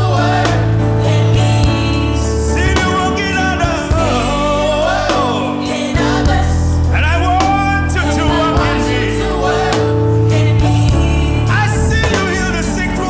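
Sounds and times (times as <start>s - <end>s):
person singing gospel: 0.0s - 13.0s
steady bass: 0.0s - 13.0s.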